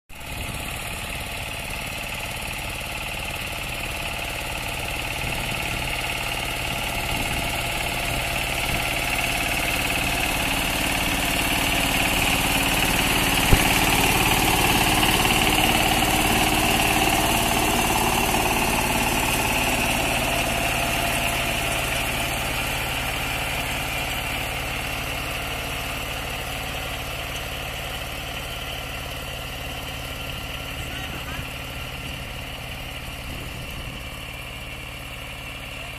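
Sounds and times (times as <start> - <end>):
tractor engine running: 0.2 - 35.9.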